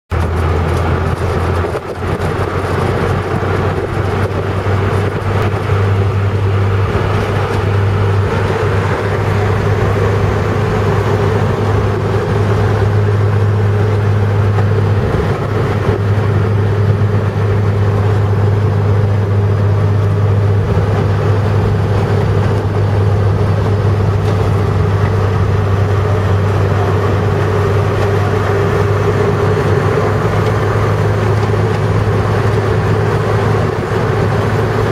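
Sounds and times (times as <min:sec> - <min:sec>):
car driving interior rumble: 0:00.1 - 0:34.9
strong low hum: 0:00.1 - 0:34.9.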